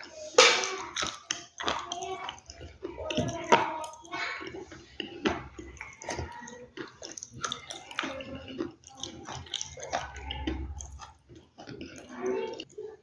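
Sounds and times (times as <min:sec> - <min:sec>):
crunchy biting and chewing: 0:00.4 - 0:12.8.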